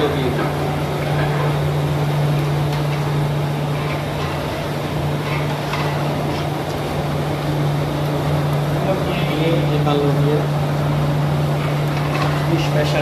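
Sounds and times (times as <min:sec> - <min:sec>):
commercial kitchen roar: 0:00.0 - 0:13.0
constant low hum: 0:00.0 - 0:13.0.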